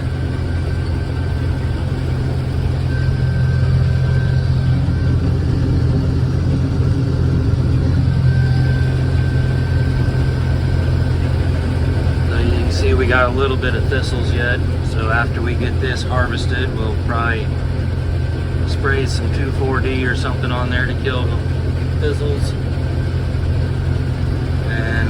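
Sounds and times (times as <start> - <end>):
combine harvester engine drone: 0.0 - 25.0
faint high whine: 0.0 - 25.0.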